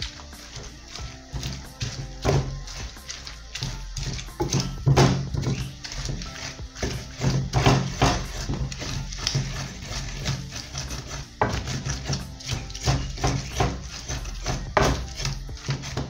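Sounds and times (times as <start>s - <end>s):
knocks and scrapes in clay bowl: 0.0s - 16.0s.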